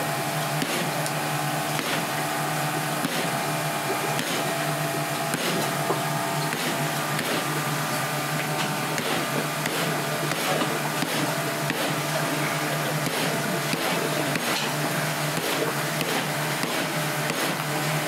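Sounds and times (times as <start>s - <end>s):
kitchen machinery humming: 0.0s - 18.0s.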